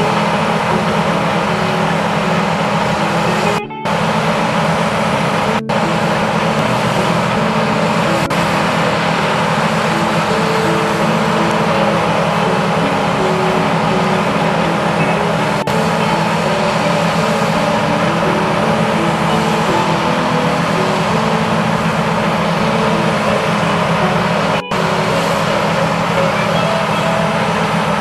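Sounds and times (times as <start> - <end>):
combine harvester running: 0.0 - 28.0.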